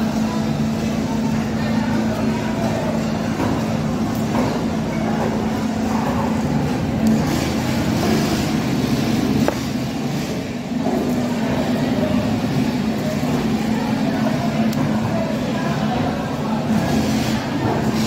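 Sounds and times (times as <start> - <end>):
faint voices: 0.0 - 18.0.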